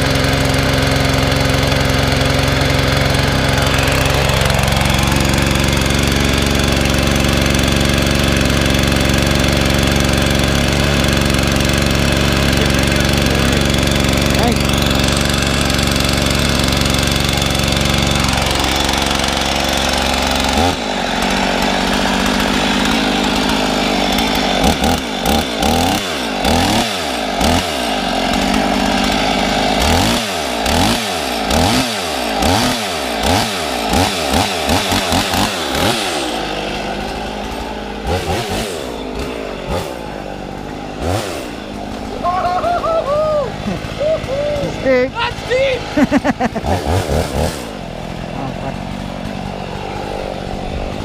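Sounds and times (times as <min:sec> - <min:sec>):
chainsaw revving: 0:00.0 - 0:51.0.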